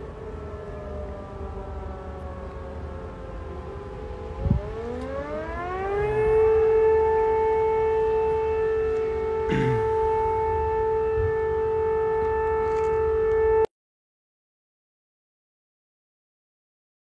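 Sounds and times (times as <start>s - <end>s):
wailing siren: 0.0s - 13.7s.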